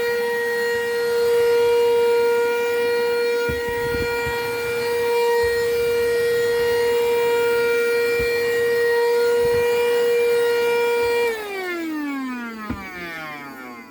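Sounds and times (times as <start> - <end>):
vacuum cleaner motor whine: 0.0 - 13.9.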